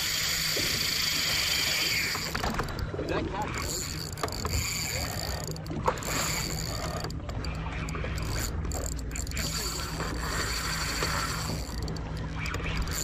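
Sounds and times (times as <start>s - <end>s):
fishing reel gears whirring: 0.0s - 13.0s.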